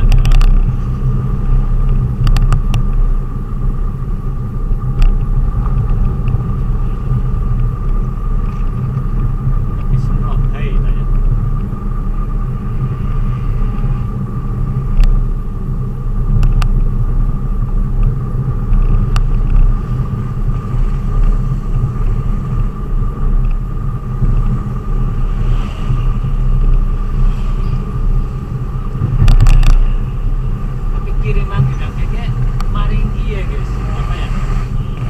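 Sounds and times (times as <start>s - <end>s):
vehicle engine and road rumble: 0.0s - 35.0s.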